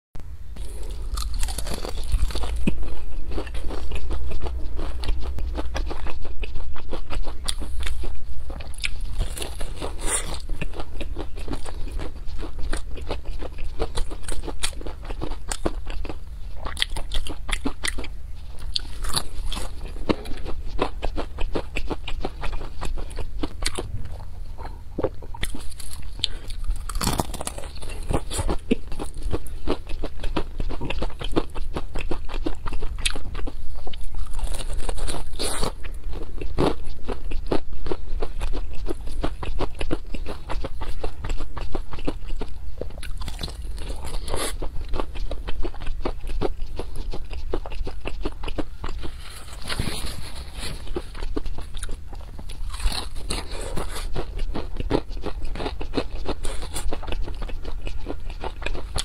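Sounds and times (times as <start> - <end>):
crunching bites of fried food: 0.6 - 23.9, 25.0 - 59.0
chewing: 0.6 - 59.0.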